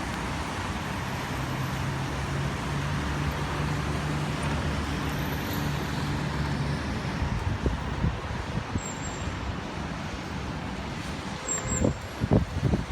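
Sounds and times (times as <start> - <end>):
traffic hiss on wet streets: 0.0 - 12.9.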